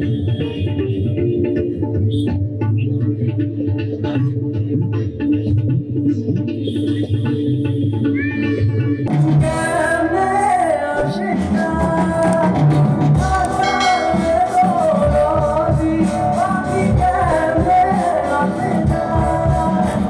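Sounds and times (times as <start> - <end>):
background music with singing: 0.0 - 20.0.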